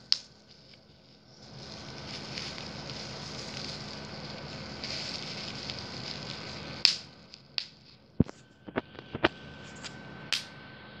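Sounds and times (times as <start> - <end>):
bubble wrap popping: 0.0 - 9.9.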